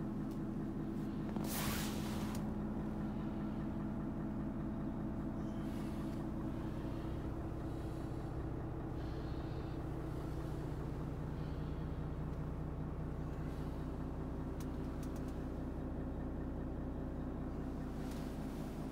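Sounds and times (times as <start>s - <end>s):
diesel truck engine idling: 0.0s - 18.9s.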